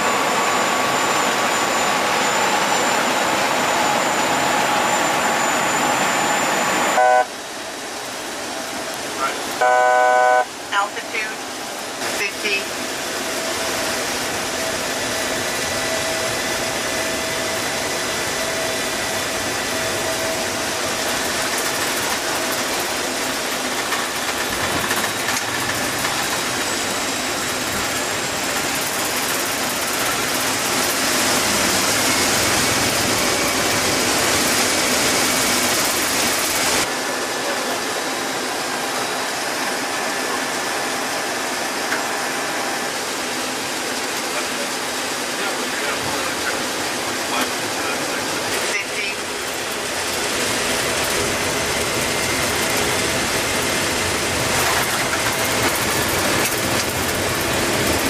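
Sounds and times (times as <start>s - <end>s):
engine and airflow rush: 0.0s - 58.0s.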